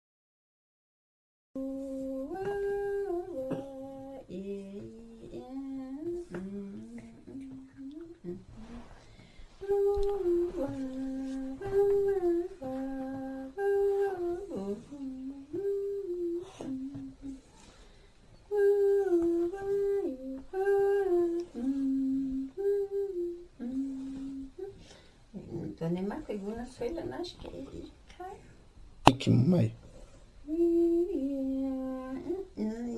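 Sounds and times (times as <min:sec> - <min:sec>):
woman singing slow melody: 0:01.6 - 0:17.8, 0:18.4 - 0:28.4, 0:30.4 - 0:32.9.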